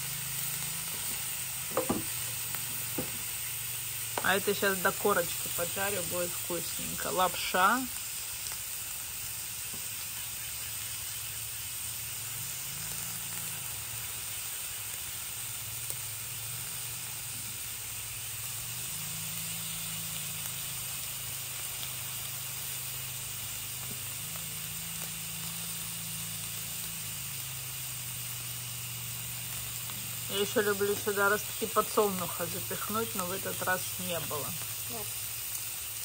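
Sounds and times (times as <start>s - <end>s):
meat sizzling on a grill pan: 0.0s - 36.0s.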